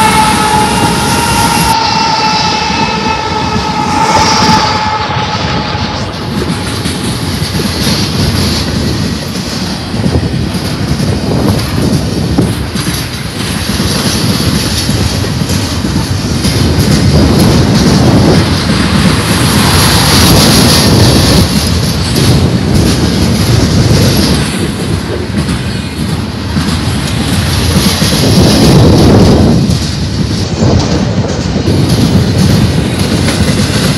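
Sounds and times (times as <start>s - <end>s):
freight train wheels rumbling on rails: 0.0s - 33.9s
wind buffeting microphone: 0.0s - 33.9s.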